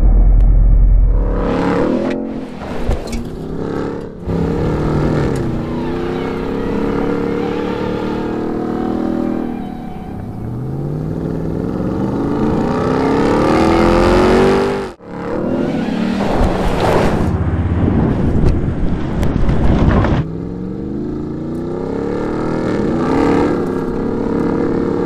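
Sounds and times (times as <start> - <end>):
car engine revving hard: 3.2 - 18.7, 20.2 - 25.0.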